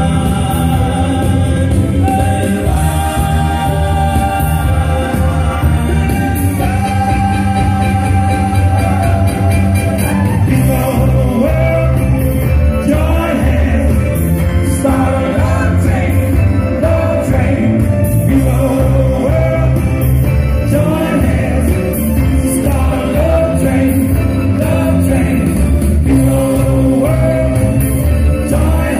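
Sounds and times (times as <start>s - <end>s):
live band music: 0.0s - 28.9s
person singing: 0.0s - 28.9s.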